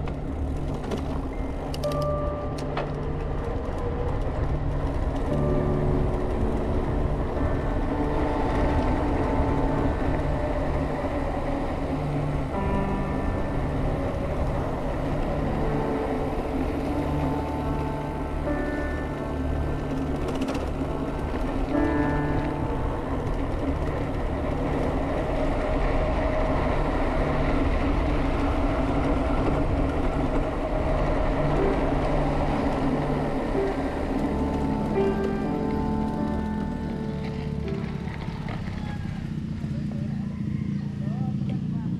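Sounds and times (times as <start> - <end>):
tyre rumble on paved road: 0.0 - 41.0.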